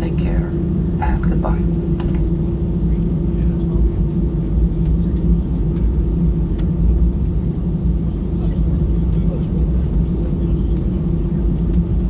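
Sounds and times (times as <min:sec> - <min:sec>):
aircraft cabin rumble: 0:00.0 - 0:12.0
idling jet engines hum: 0:00.0 - 0:12.0.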